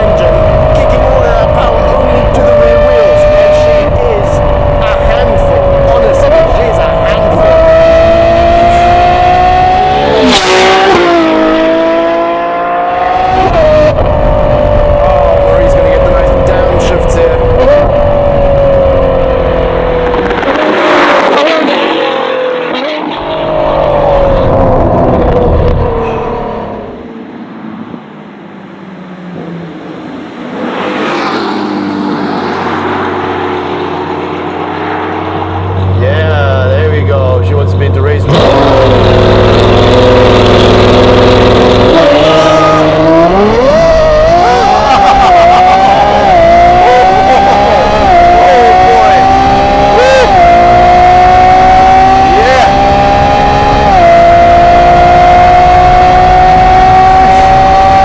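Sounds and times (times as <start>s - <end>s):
car engine at full throttle: 0.0s - 58.0s
wind and tyre noise: 0.0s - 58.0s.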